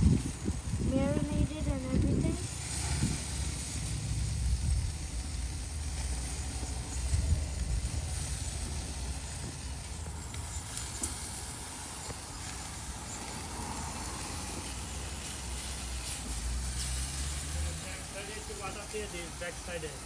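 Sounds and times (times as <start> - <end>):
low rumble: 0.0 - 16.8
grill fire hissing: 0.0 - 20.0.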